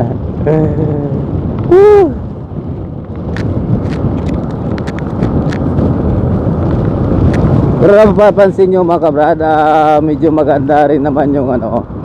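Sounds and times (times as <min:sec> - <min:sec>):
wind rushing on helmet microphone: 0:00.0 - 0:12.0.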